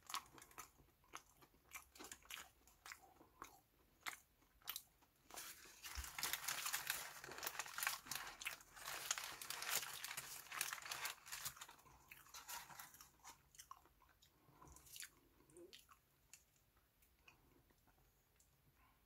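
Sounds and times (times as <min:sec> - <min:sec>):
chewing with crunching: 0:00.0 - 0:18.5.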